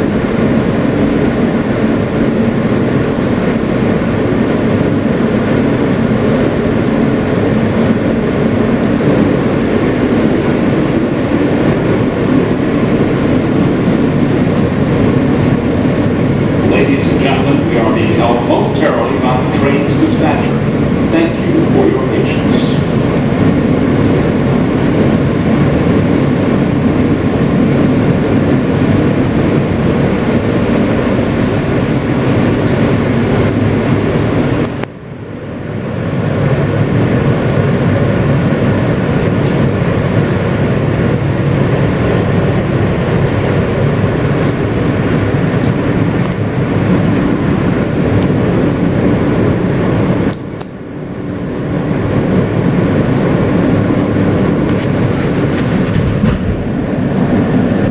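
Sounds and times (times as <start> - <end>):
subway car rumbling: 0.0 - 57.9.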